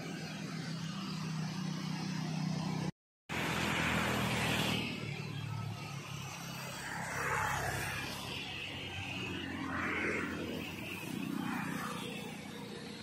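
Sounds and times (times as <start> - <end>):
constant rushing noise: 0.0 - 13.0
vehicle engine humming: 0.0 - 13.0.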